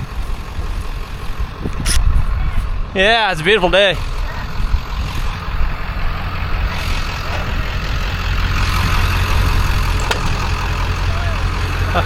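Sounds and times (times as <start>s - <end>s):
rushing noise: 0.0s - 12.0s
truck engine rumbling: 0.0s - 12.0s.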